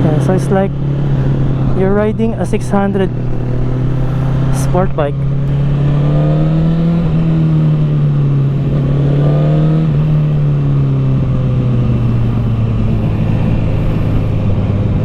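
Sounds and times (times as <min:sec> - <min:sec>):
motorcycle engine running: 0:00.0 - 0:15.0
wind and road hiss: 0:00.0 - 0:15.0.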